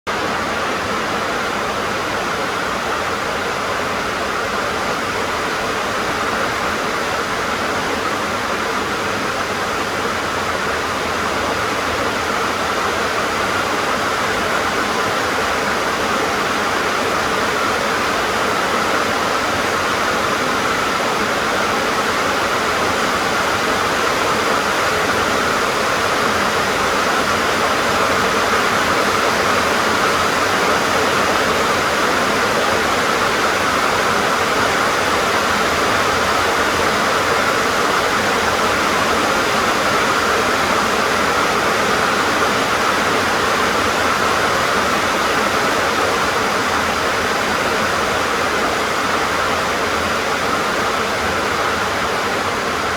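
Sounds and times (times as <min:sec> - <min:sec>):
heavy rain on a tin roof: 0:00.1 - 0:52.9.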